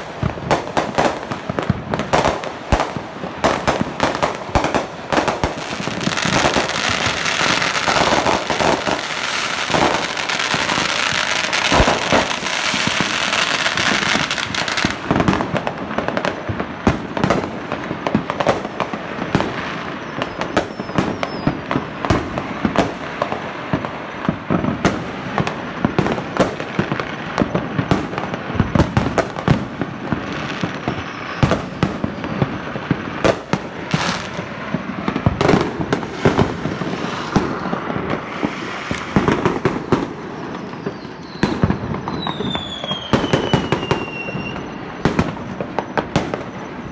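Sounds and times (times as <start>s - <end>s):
fireworks bangs and pops: 0.0s - 46.9s
fireworks crackling: 0.0s - 46.9s.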